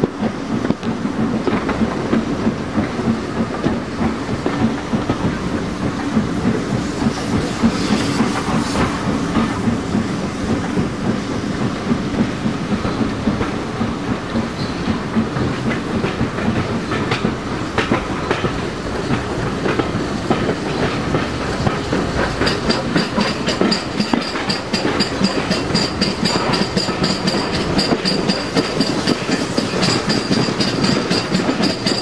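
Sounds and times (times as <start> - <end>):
train wheels clattering: 0.0 - 32.0.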